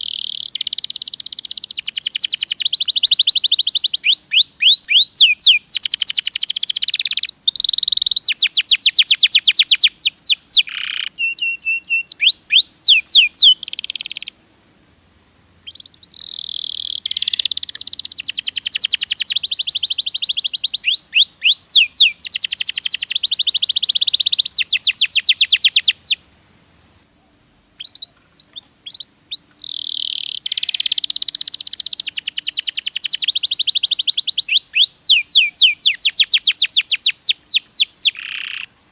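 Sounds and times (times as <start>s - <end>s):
canary singing trills: 0.0s - 14.4s, 15.6s - 26.2s, 27.8s - 38.7s.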